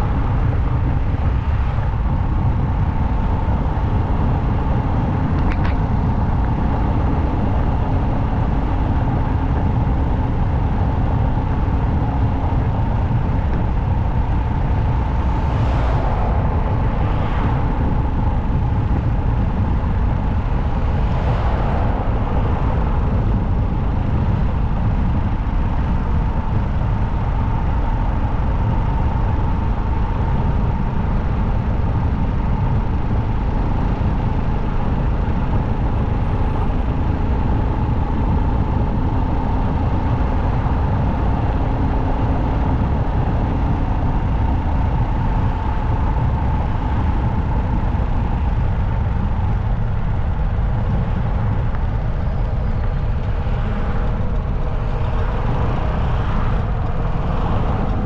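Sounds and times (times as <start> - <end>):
motorcycle engine hum: 0.0 - 58.0
passing traffic: 0.0 - 58.0
wind rumbling on microphone: 0.0 - 58.0.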